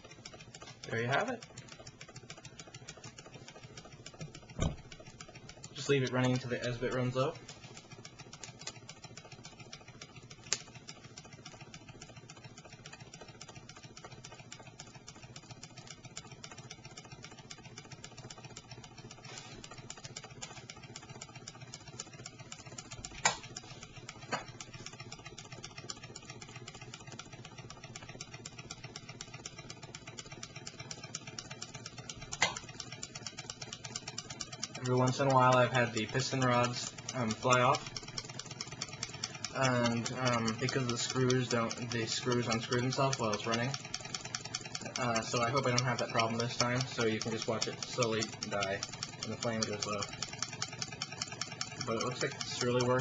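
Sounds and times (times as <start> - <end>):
sharp clicks: 0.0 - 53.0
small engine ticking clatter: 0.0 - 53.0.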